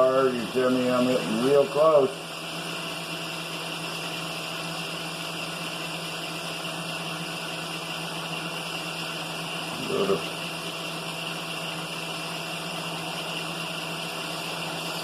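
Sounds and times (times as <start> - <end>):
milling machine motor hum: 0.0 - 15.0.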